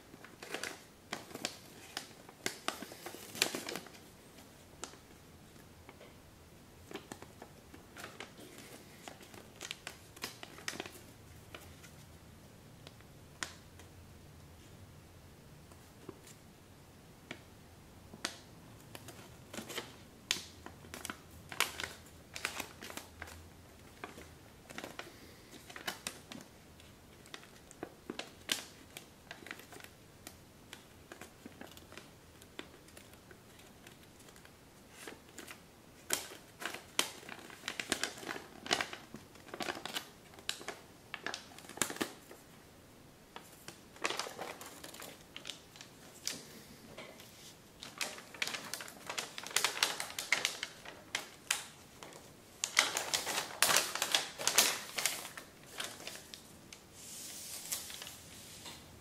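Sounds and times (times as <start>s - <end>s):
paper crinkling and crackling: 0.0s - 6.2s, 6.8s - 12.1s, 18.2s - 42.6s, 43.3s - 58.8s.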